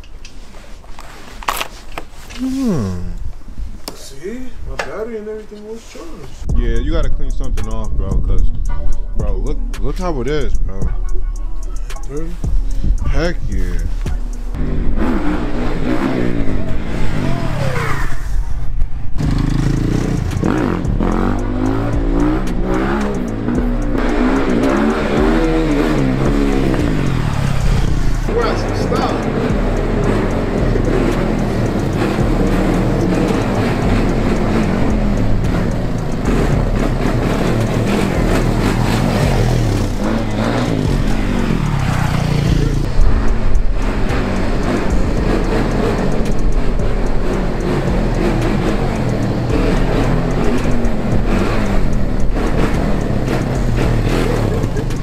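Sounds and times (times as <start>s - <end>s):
engine revving: 6.4s - 55.0s
music playing: 6.5s - 18.4s, 19.2s - 55.0s.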